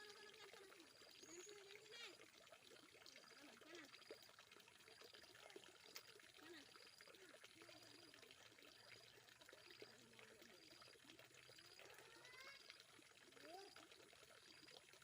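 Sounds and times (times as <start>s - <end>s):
faint distant voices: 0.0s - 15.0s
faint water trickle: 0.0s - 15.0s.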